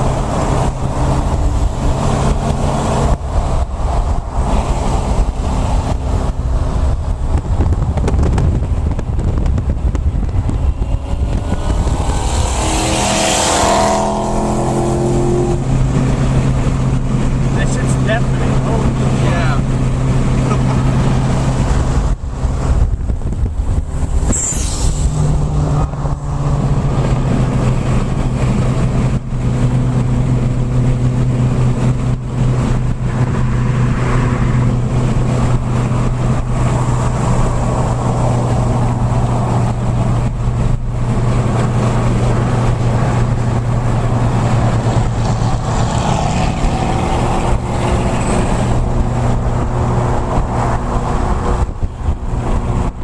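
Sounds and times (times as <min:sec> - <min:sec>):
car engine running: 0:00.0 - 0:24.4, 0:25.0 - 0:53.0
road noise: 0:00.0 - 0:53.0.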